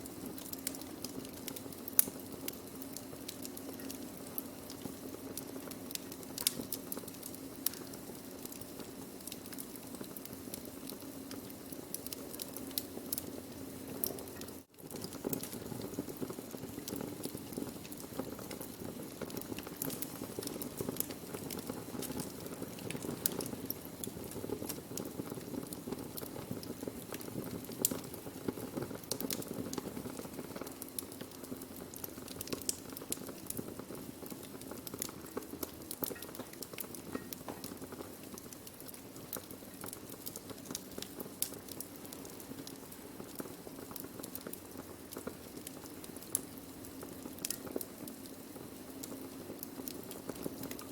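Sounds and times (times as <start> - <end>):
burning wood crackling and popping: 0.0 - 50.9
soft fire hiss: 0.0 - 50.9.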